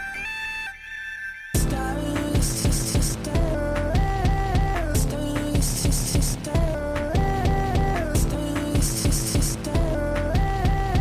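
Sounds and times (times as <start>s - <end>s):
bright hi-hat hiss: 1.6s - 10.7s
deep kick drums: 1.6s - 11.0s.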